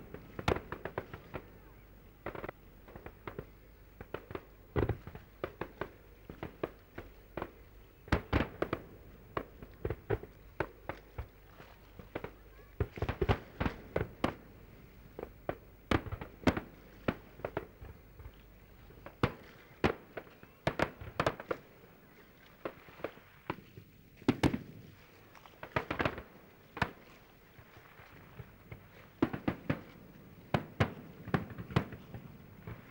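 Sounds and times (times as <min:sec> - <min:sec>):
fireworks bangs: 0:00.0 - 0:11.3, 0:11.9 - 0:18.3, 0:18.9 - 0:24.9, 0:25.6 - 0:32.9.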